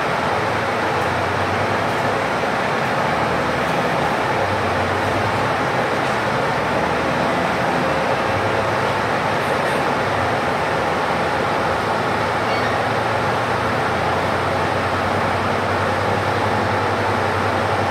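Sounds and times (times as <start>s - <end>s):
bus engine running: 0.0s - 17.9s
road rumble: 0.0s - 17.9s.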